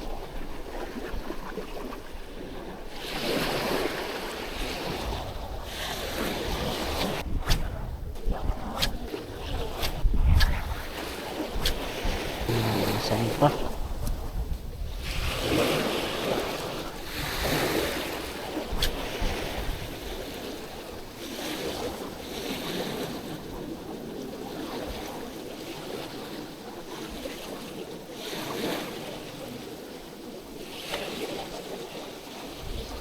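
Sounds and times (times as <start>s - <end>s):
wind rumbling on microphone: 0.0s - 29.7s, 30.5s - 33.0s
waves breaking on beach: 0.0s - 33.0s.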